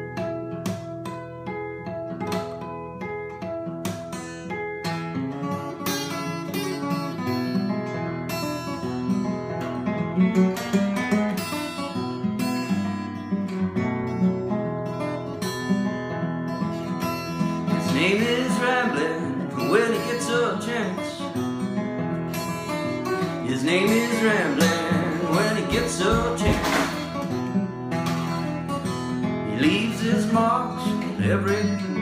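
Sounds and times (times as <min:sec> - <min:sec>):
fingerpicked acoustic guitar: 0:00.0 - 0:32.0.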